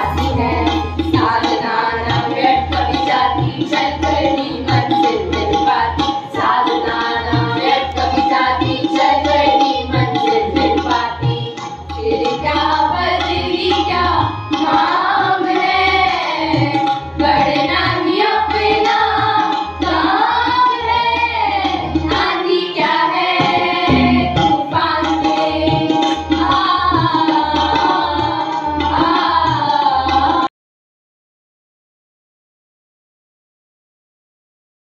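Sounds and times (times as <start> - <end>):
chorus of young voices singing: 0.0 - 30.5
harmonium holding notes: 0.0 - 30.5
tabla drumming: 0.0 - 30.5.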